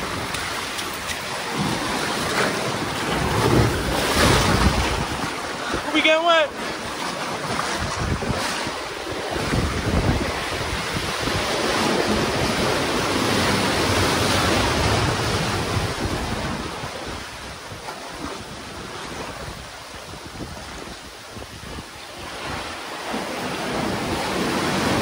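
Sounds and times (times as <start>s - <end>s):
sea surf rushing through rocks: 0.0s - 25.0s
wind buffeting microphone: 0.0s - 25.0s.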